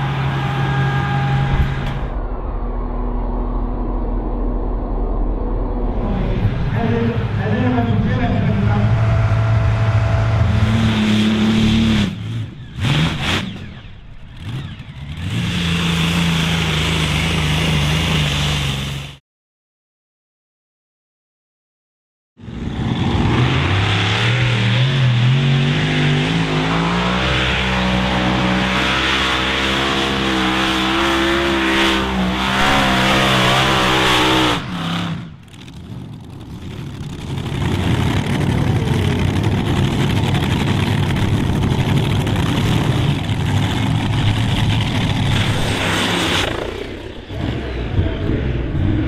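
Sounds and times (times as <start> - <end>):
tractor engines at full throttle: 0.0 - 19.2, 22.4 - 49.0.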